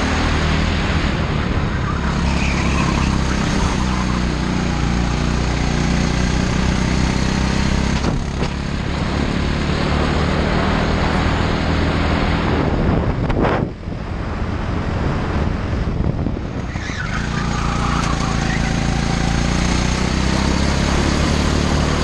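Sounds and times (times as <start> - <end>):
go-kart engine running hard: 0.0 - 22.0.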